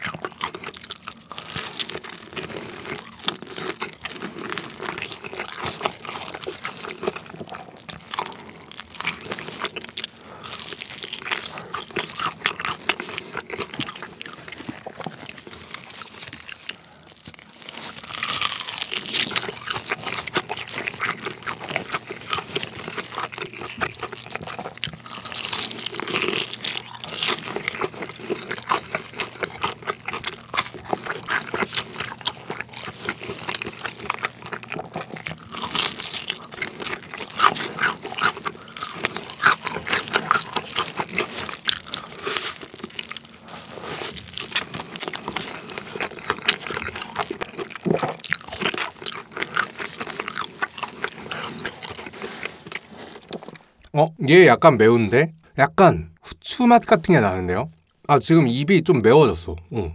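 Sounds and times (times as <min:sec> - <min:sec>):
crunchy chewing of fried chicken: 0:00.0 - 0:53.9.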